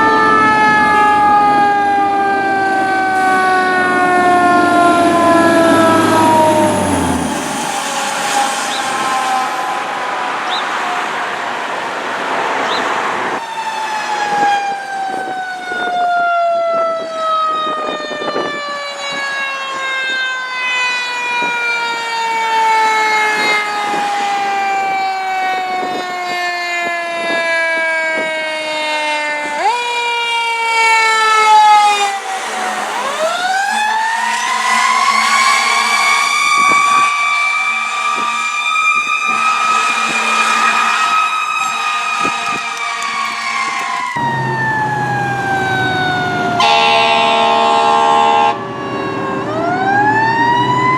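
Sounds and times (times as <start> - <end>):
fire truck mechanical siren wailing: 0.0 - 50.9.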